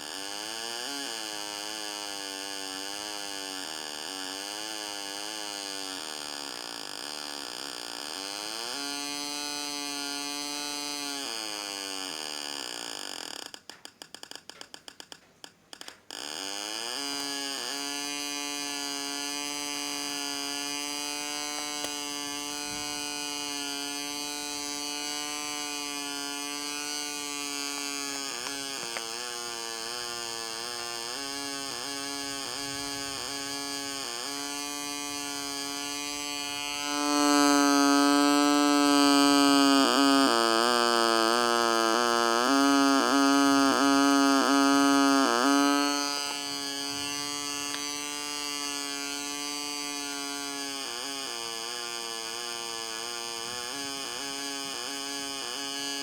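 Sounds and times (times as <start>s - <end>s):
buzzy electronic alarm tone: 0.0s - 13.5s, 16.1s - 56.0s.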